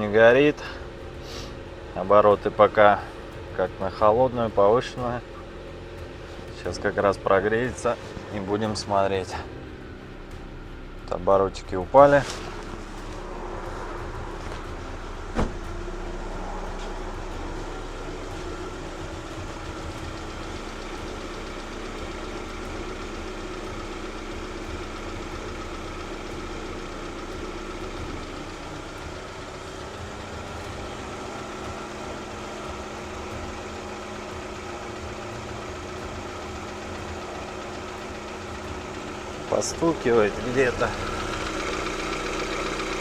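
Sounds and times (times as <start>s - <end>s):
car engine idling: 0.0s - 43.0s
light tapping in engine: 0.0s - 43.0s.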